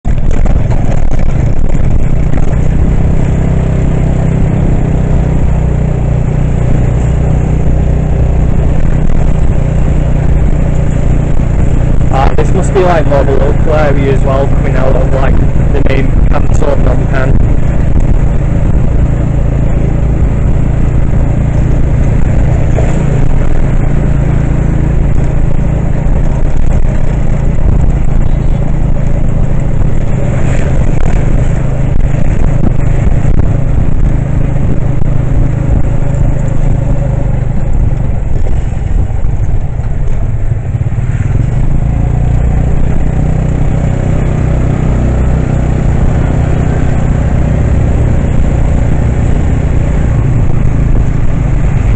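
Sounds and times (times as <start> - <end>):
road and traffic noise: 0.0 - 51.9
vehicle engine running: 0.0 - 51.9.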